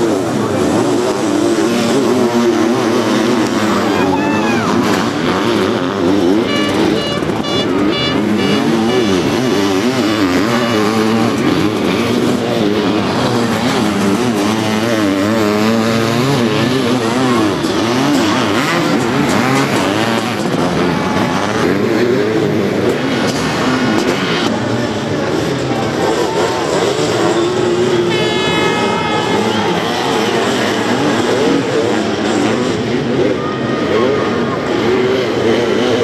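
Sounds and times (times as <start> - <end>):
motorcycle engines revving: 0.0 - 36.0.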